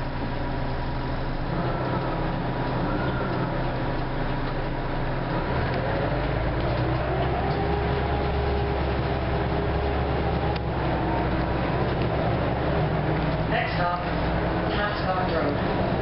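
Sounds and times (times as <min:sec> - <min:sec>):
bus diesel engine accelerating: 0:00.0 - 0:16.0.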